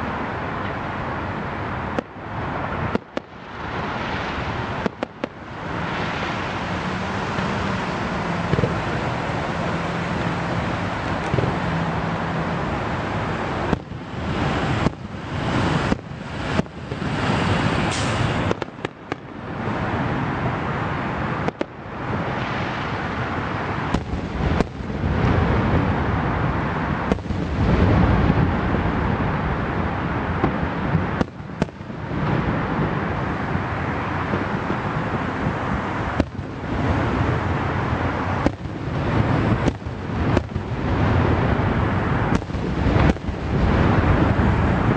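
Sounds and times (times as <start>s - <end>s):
fireworks bursts and crackle: 0.0s - 44.9s.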